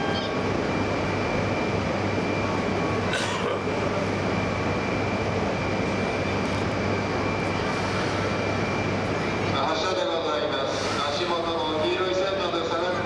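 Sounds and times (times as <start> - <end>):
train humming with high whine: 0.0 - 13.0.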